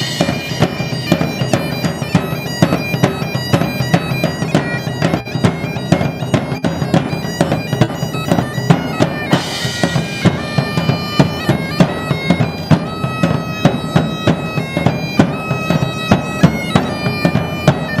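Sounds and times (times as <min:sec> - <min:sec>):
bagpipes playing over a drone: 0:00.0 - 0:18.0
regular drum beat: 0:00.0 - 0:18.0.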